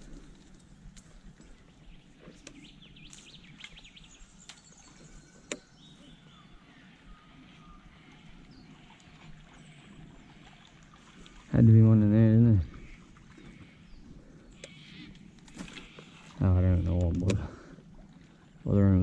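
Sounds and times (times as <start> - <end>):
birds calling and chirping: 0.0 - 19.0.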